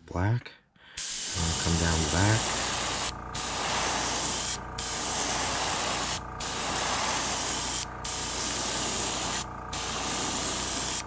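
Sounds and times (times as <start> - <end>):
airbrush spraying paint: 1.0 - 11.0.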